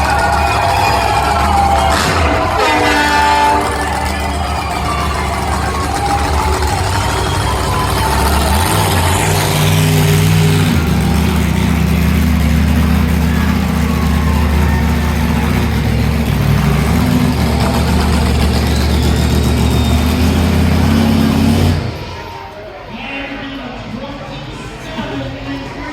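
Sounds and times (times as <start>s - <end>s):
monster truck engine running: 0.0s - 22.7s.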